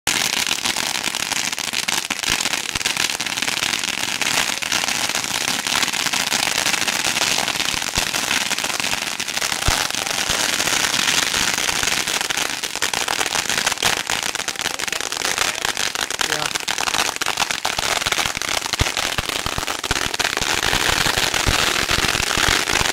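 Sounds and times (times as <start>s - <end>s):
firecrackers popping: 0.0s - 22.9s.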